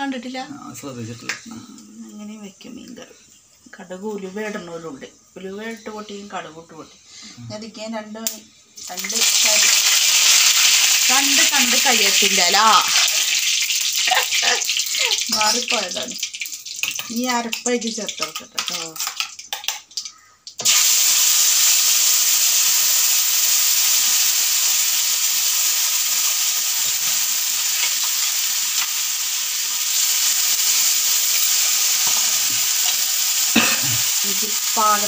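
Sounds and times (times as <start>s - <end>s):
spice paste sizzling in oil: 2.0s - 35.0s.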